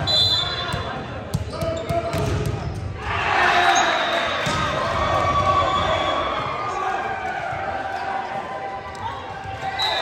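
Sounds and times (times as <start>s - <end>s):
crowd chattering in echoing hall: 0.0s - 10.0s.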